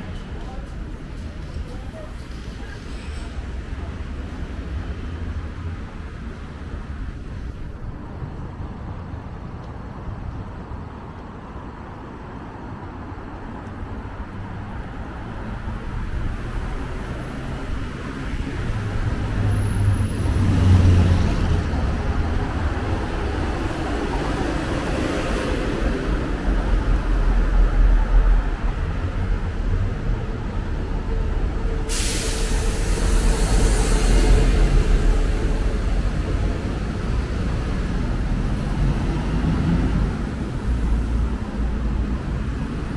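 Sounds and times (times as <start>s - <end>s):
cars and buses passing: 0.0s - 42.9s.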